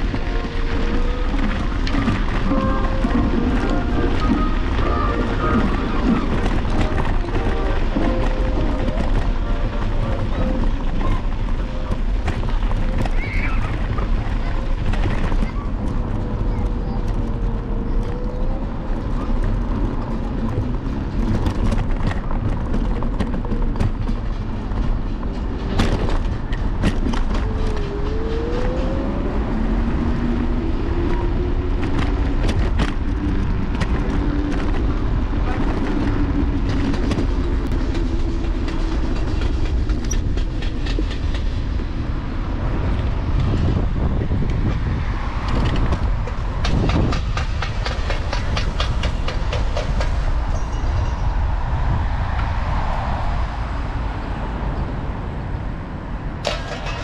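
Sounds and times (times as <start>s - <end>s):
rattles and clicks from bumps: 0.0s - 51.3s, 56.4s - 57.0s
scooter rolling low rumble: 0.0s - 57.0s.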